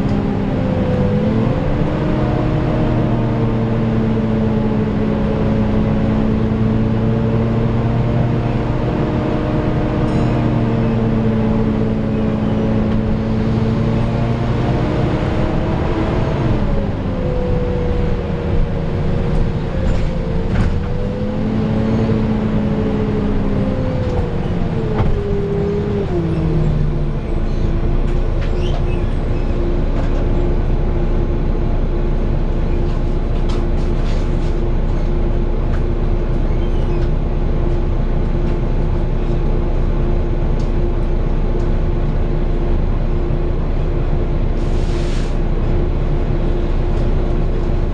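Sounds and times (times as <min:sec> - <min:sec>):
bus diesel engine humming: 0:00.0 - 0:47.9.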